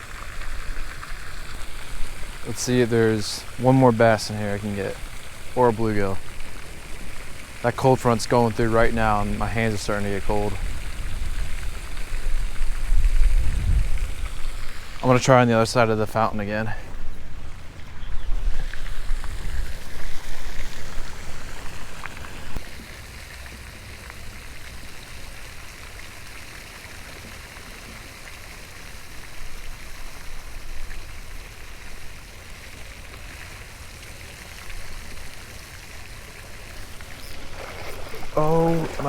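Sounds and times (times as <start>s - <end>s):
fountain spray splashing water: 0.0s - 39.0s.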